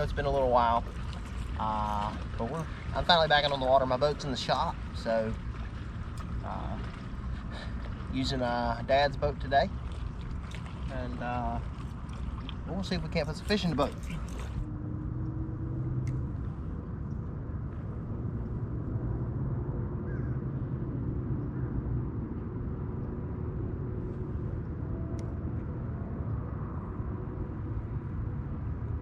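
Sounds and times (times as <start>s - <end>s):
boat motor running: 0.0s - 29.0s.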